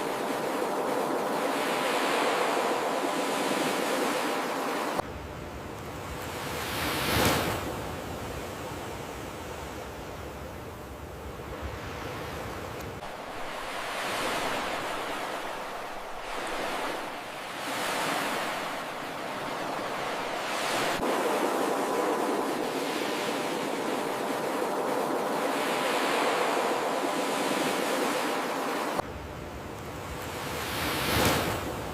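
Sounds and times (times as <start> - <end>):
ocean surf breaking on beach: 0.0 - 5.0, 5.9 - 9.9, 11.4 - 29.0, 29.9 - 31.9.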